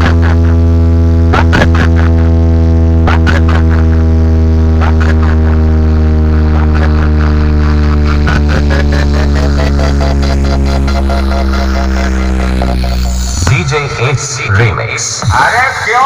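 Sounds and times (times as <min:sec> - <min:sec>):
loud low bass drone: 0:00.0 - 0:16.0.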